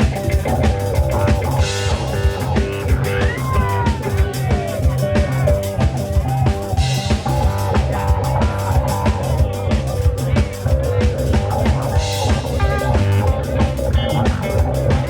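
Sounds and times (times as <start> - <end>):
bass line: 0.0 - 15.0
drum kit beat: 0.0 - 15.0
guitar: 0.0 - 15.0.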